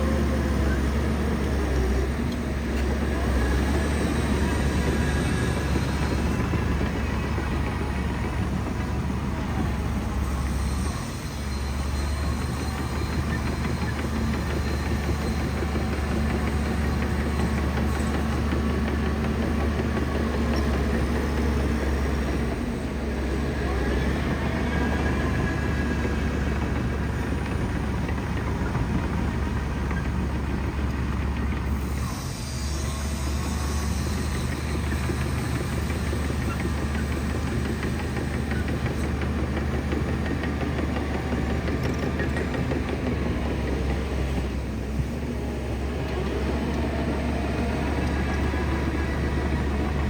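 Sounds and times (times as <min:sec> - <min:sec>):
bulldozer diesel engine droning: 0:00.0 - 0:50.0.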